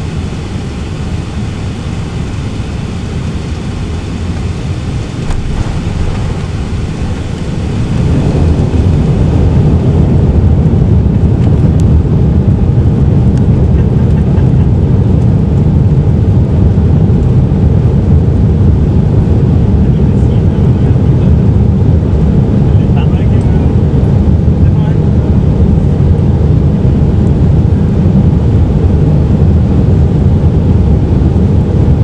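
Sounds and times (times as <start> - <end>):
aircraft cabin engine rumble: 0.0 - 32.0.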